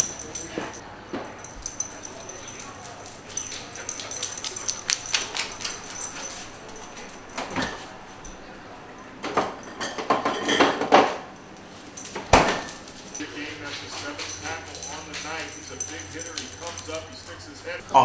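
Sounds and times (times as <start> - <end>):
knocks and rattles: 0.0 - 8.5, 9.1 - 17.4.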